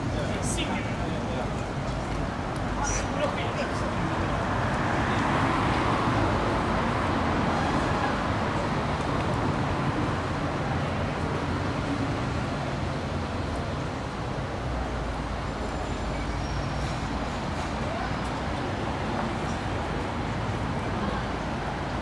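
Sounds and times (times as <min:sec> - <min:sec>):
cars and buses passing: 0:00.0 - 0:22.0
tyre and road noise: 0:00.0 - 0:22.0.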